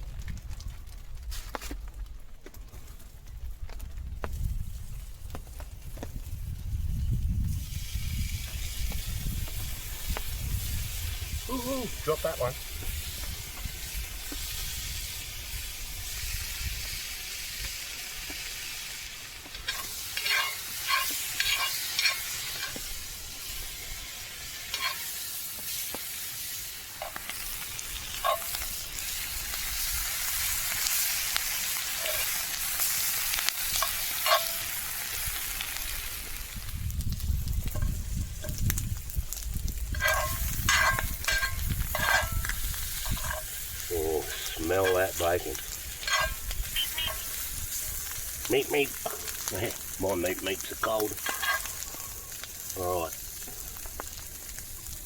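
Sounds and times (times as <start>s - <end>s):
sharp crackles and pops: 0.0s - 55.0s
bacon sizzling in a pan: 4.4s - 55.0s.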